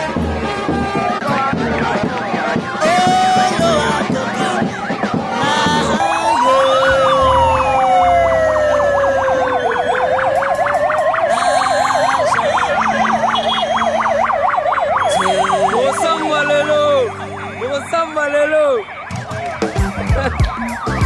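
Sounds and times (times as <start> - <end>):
siren wailing: 0.0 - 21.0
siren yelping: 2.2 - 21.0.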